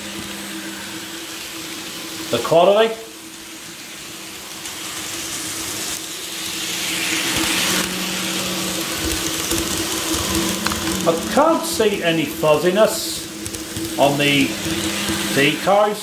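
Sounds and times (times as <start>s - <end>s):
model train whirring: 0.0s - 16.0s.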